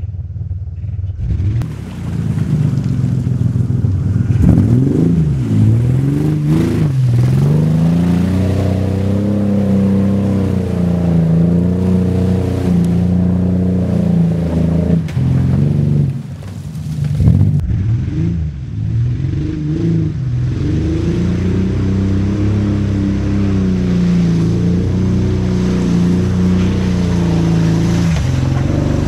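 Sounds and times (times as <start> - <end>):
car engine revving: 0.8 - 29.0.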